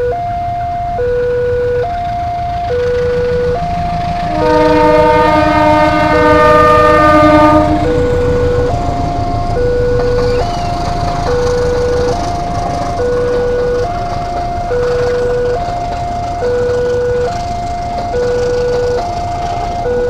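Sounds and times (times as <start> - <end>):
level crossing warning alarm: 0.0 - 20.0
locomotive horn: 0.0 - 20.0.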